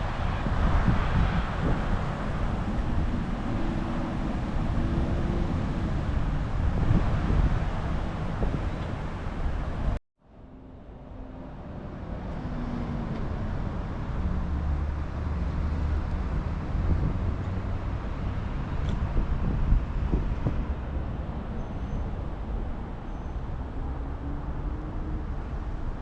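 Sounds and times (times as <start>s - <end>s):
road traffic: 0.0s - 26.0s
wind and road noise: 0.0s - 26.0s.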